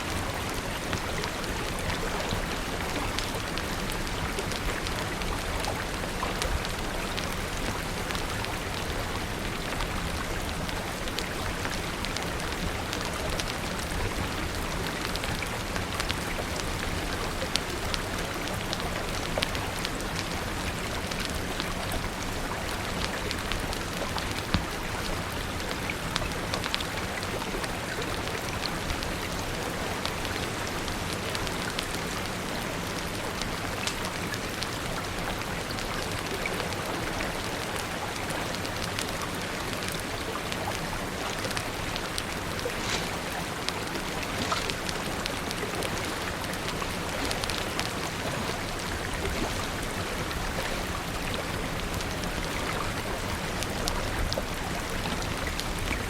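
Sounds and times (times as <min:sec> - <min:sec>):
crackling fire: 0:00.0 - 0:56.0
steady rain falling: 0:00.0 - 0:56.0.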